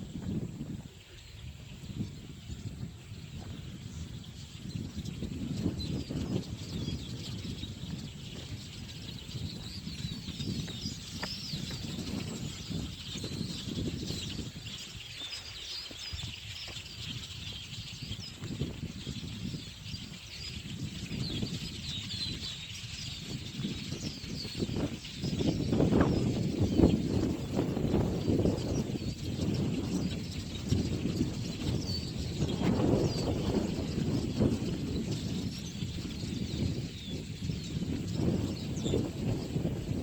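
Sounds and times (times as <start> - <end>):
flock of birds chirping: 0.0 - 40.0.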